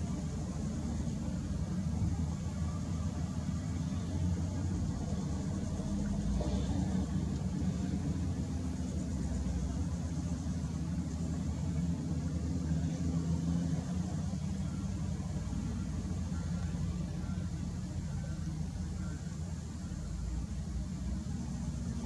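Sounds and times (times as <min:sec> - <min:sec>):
wheel loader diesel engine: 0:00.0 - 0:22.0.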